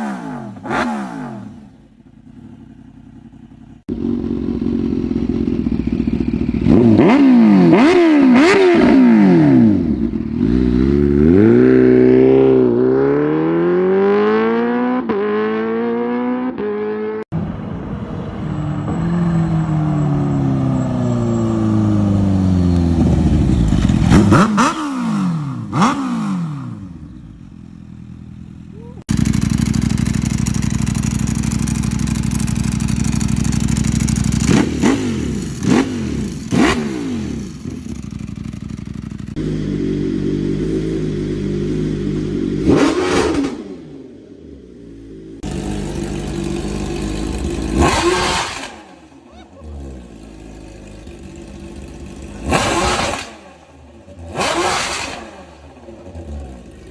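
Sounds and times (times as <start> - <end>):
motorcycle engines revving: 0.0 - 56.9.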